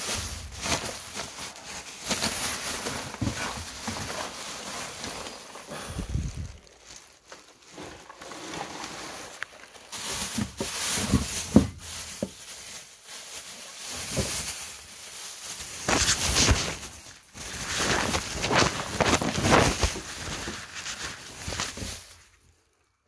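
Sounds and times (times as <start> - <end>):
plastic bags rustling: 0.0 - 23.0.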